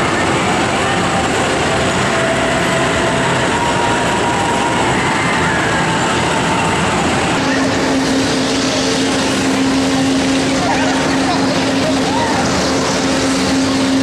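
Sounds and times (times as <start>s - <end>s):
crowd noise: 0.0s - 14.0s
ride machinery running: 0.0s - 14.0s.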